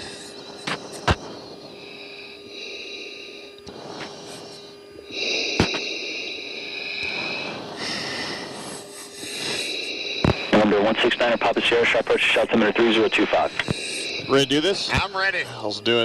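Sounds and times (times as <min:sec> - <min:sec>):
hissy breathing into microphone: 0:00.0 - 0:12.5, 0:13.1 - 0:14.6
steady hum: 0:00.0 - 0:16.0.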